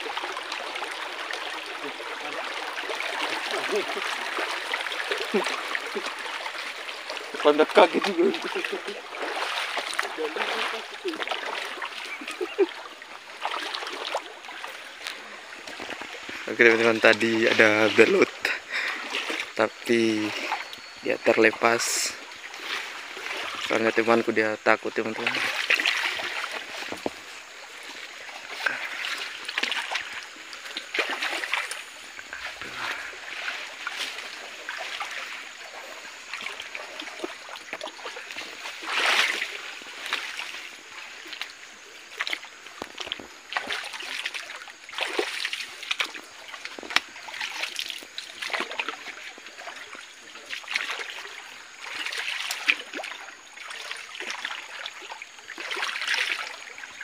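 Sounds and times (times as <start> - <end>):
feet splashing in water: 0.0 - 57.0
flowing water trickling: 0.0 - 57.0.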